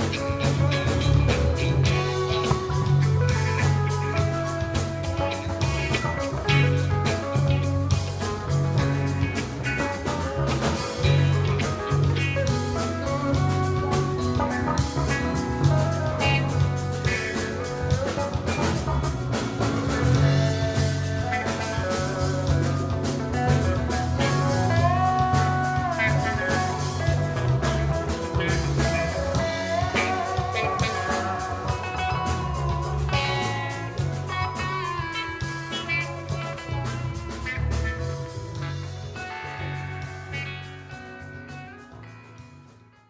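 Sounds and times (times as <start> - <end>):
drums steady beat: 0.0 - 43.0
rock band playing: 0.0 - 43.0
sliding guitar lead line: 0.0 - 43.0.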